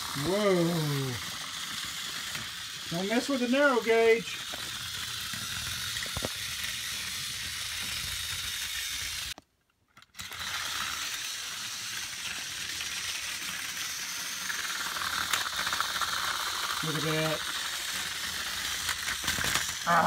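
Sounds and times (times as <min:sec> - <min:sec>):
toy train motors whirring: 0:00.0 - 0:20.0.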